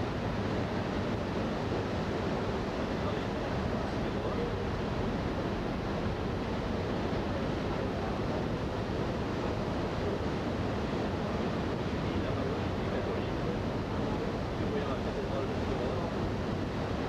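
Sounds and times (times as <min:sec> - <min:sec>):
wind and sea rushing: 0:00.0 - 0:17.0.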